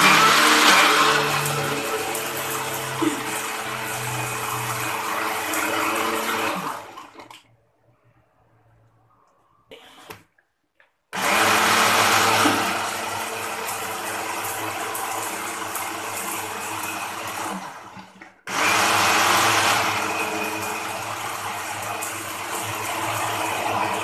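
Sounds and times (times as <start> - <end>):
electric blender grinding: 0.0 - 7.4, 11.1 - 24.0.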